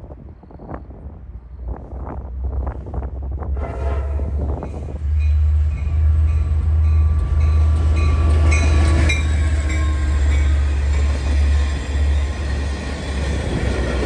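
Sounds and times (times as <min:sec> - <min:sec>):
diesel locomotive engine rumble: 0:00.0 - 0:14.0
train cars rumbling on rails: 0:00.0 - 0:14.0.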